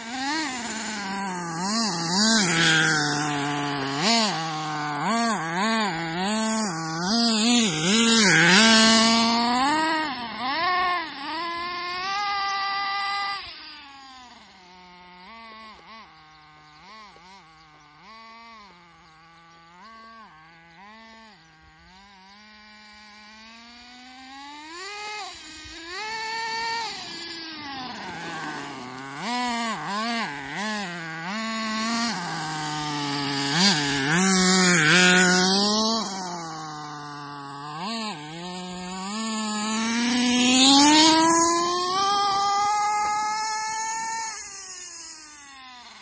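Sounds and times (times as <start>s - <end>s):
rc car engine revving: 0.0s - 46.0s.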